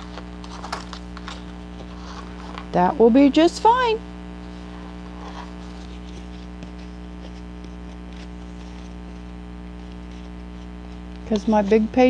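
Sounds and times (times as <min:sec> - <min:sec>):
book pages rustling: 0:00.0 - 0:02.7, 0:04.4 - 0:12.0
low electrical hum: 0:00.0 - 0:12.0.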